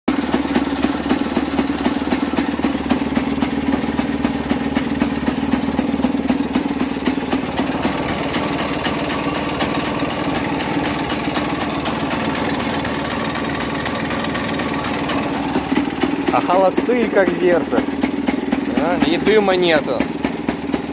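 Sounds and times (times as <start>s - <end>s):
two-stroke engine idling: 0.1s - 20.9s.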